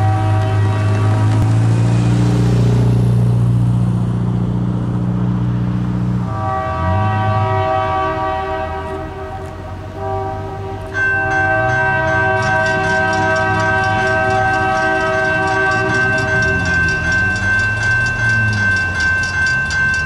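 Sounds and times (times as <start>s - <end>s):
distant locomotive horn: 0.0s - 2.3s, 5.4s - 20.0s.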